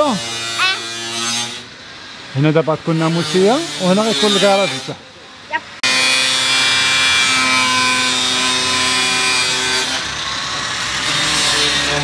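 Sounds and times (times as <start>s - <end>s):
power tool cutting: 0.0s - 1.7s, 2.9s - 5.0s, 5.8s - 12.0s.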